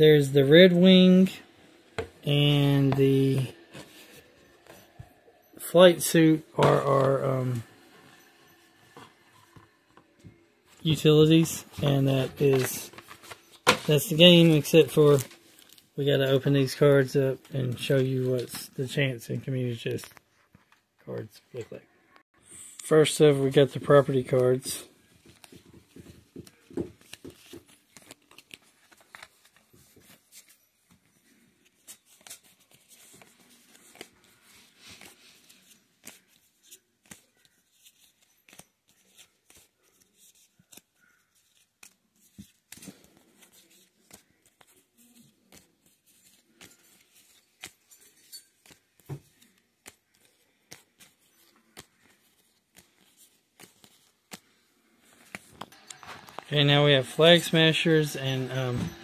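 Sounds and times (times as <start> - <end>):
cards clicking and rustling: 0.1 - 19.1, 23.5 - 59.0.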